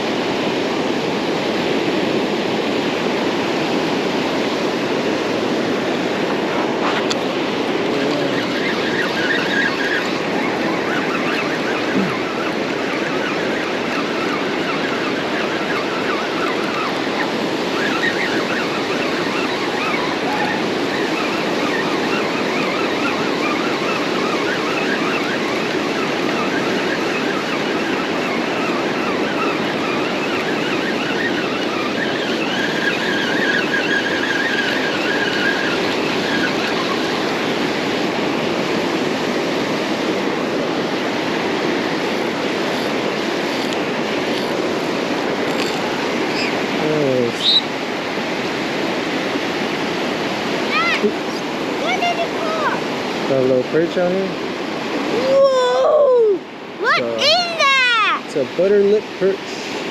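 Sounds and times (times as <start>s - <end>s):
ocean surf breaking on sand: 0.0s - 59.9s.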